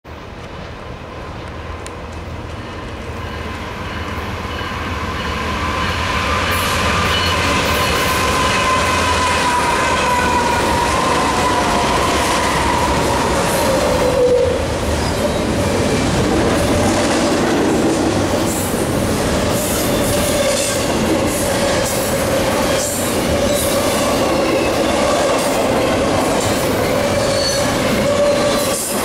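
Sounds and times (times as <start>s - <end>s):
locomotive high whine: 0.2s - 29.0s.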